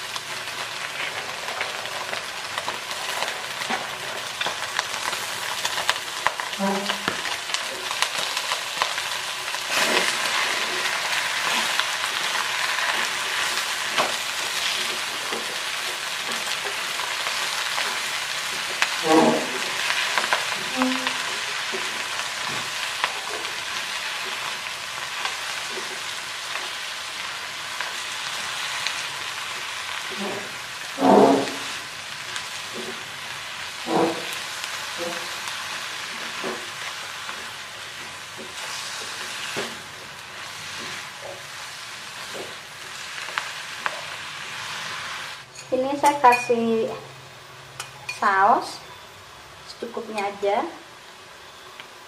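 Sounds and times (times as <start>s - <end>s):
food sizzling in a wok: 0.0s - 52.0s.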